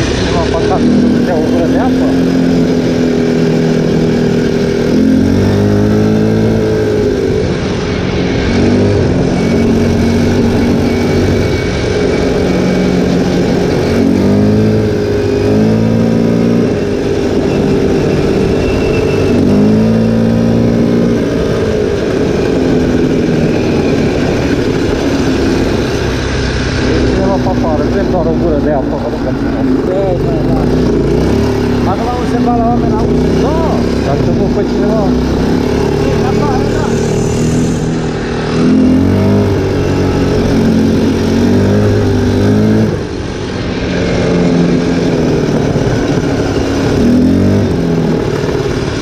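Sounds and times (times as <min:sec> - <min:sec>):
atv engine running: 0:00.0 - 0:49.0
steady rush of noise: 0:00.0 - 0:49.0.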